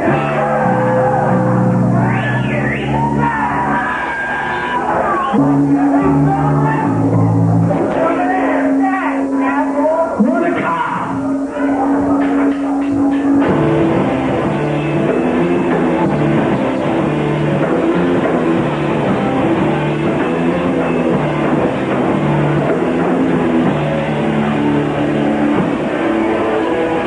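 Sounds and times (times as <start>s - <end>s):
bass guitar: 0.0s - 27.0s
drums: 0.0s - 27.0s
electric guitar: 0.0s - 27.0s.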